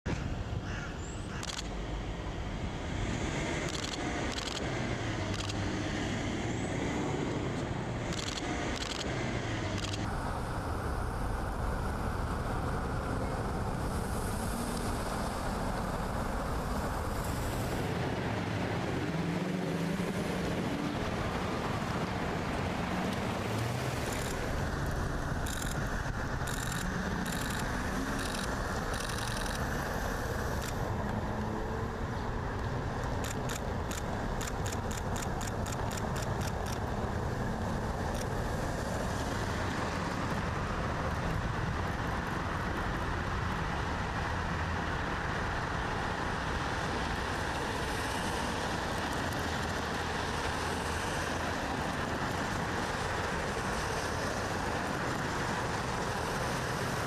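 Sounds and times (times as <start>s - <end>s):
cars passing on road: 0.1s - 57.0s.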